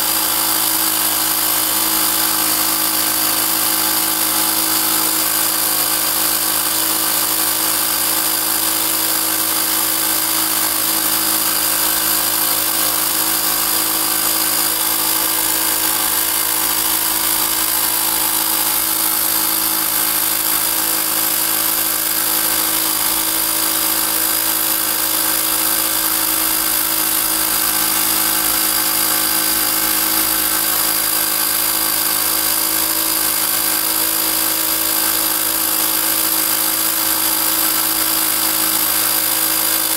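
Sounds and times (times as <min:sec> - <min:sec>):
air compressor humming: 0:00.0 - 0:39.9.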